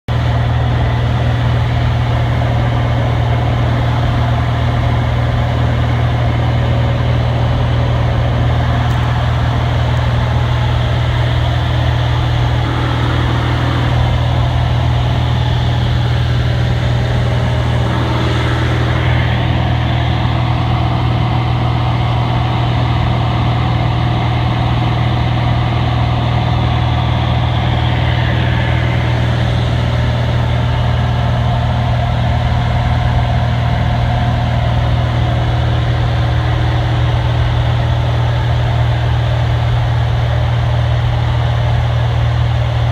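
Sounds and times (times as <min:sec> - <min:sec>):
airplane engine and propeller drone: 0:00.1 - 0:42.9.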